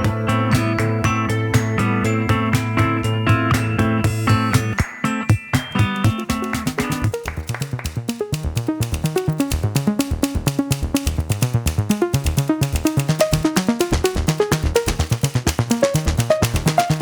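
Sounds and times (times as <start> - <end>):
electronic music with fast beat: 0.0 - 17.0.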